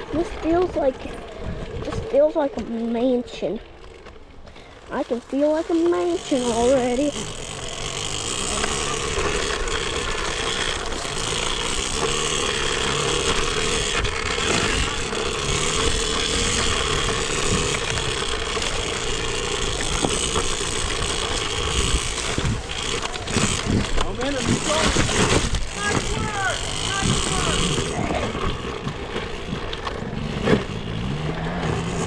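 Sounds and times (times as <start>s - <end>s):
bike rattling on rough ground: 0.0s - 32.0s
electric motor whine: 3.4s - 32.0s.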